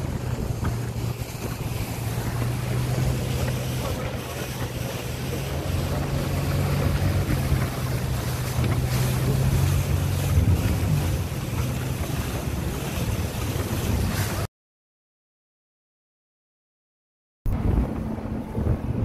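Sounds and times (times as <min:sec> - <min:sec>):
boat engine humming: 0:00.0 - 0:14.5, 0:17.5 - 0:19.0
water rushing past hull: 0:00.0 - 0:14.5, 0:17.5 - 0:19.0
wind buffeting microphone: 0:00.0 - 0:14.5, 0:17.5 - 0:19.0.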